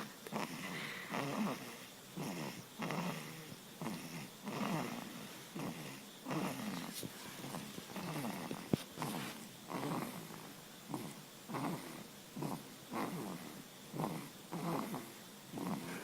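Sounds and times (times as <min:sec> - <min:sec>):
baby snoring: 0:00.0 - 0:16.0.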